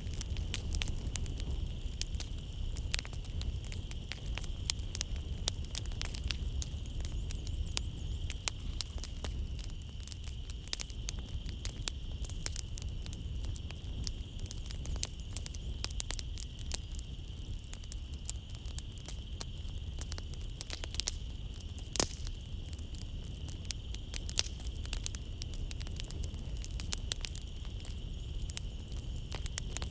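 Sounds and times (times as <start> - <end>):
high-pitched night nature hum: 0.0 - 29.9
wood fire crackling: 0.0 - 29.9.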